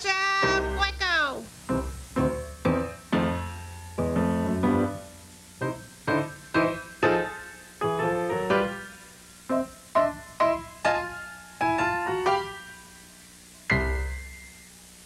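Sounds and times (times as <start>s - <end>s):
piano notes and chords: 0.4s - 13.1s, 13.7s - 14.8s.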